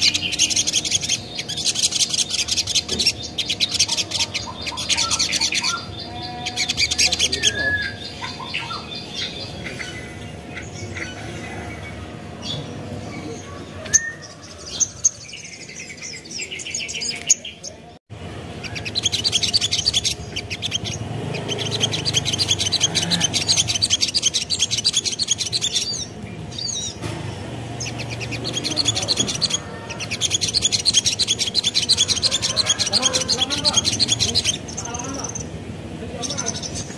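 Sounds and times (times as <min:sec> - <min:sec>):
bird singing high chirps: 0:00.0 - 0:17.8, 0:18.5 - 0:27.0, 0:27.7 - 0:35.6.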